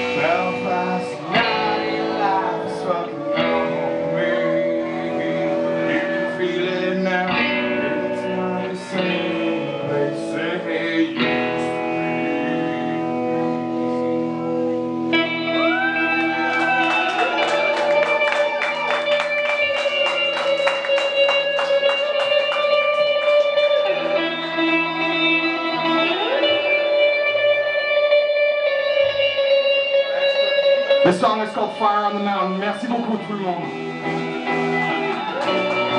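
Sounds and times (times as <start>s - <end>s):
distorted electric guitars: 0.0s - 35.9s
drums: 0.0s - 35.9s.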